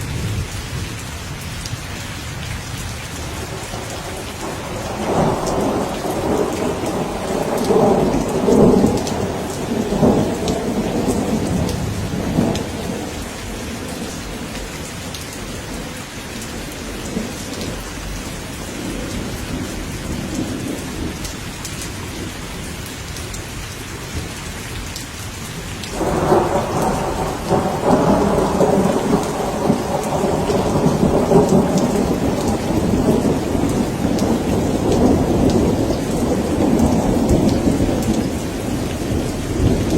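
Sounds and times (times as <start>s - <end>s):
steady rain: 0.0s - 39.9s
rolling thunder: 2.8s - 22.4s, 25.9s - 39.9s.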